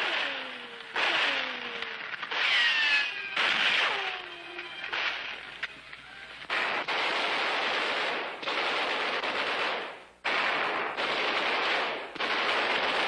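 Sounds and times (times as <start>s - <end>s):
machine-gun fire bursts: 0.0s - 5.8s, 6.4s - 13.0s.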